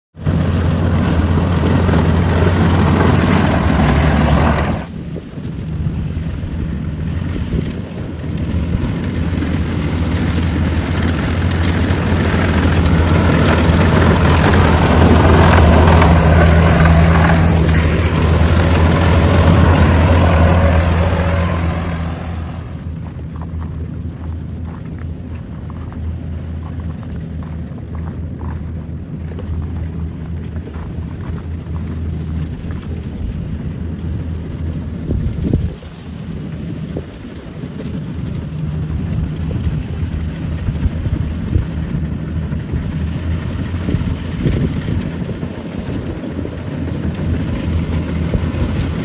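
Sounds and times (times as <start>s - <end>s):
combine harvester engine drone: 0.2s - 49.0s.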